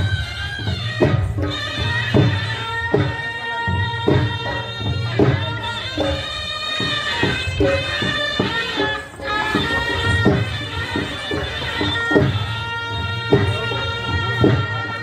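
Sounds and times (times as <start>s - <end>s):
drums beating: 0.0s - 15.0s
reedy wind instrument melody: 0.0s - 15.0s.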